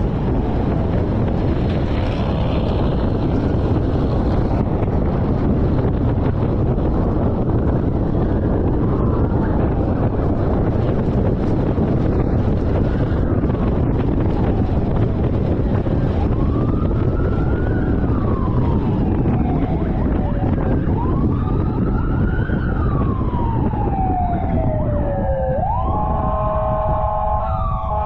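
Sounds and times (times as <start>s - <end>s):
faint police siren wailing: 0.0s - 28.0s
wind and road noise: 0.0s - 28.0s.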